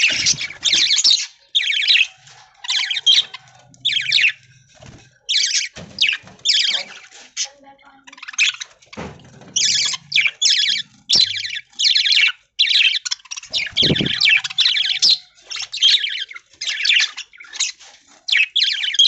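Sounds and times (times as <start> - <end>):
budgerigars chattering: 0.0 - 4.6, 5.2 - 8.8, 9.6 - 19.0.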